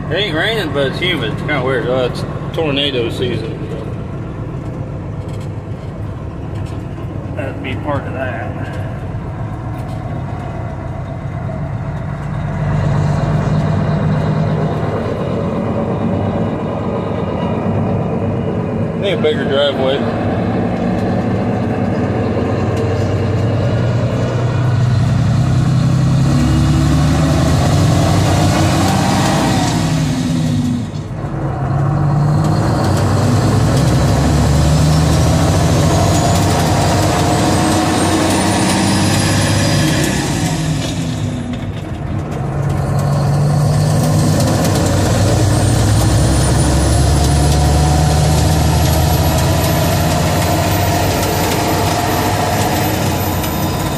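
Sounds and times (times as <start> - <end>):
engine whine: 0.0 - 53.9
truck diesel engine pulling hard: 0.0 - 53.9.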